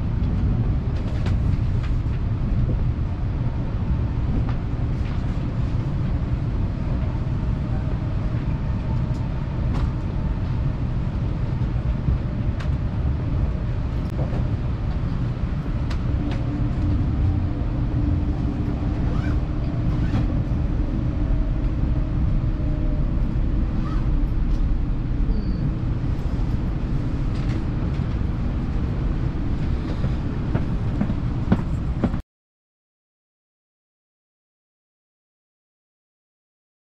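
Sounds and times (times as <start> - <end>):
train cabin low rumble: 0.0 - 32.2.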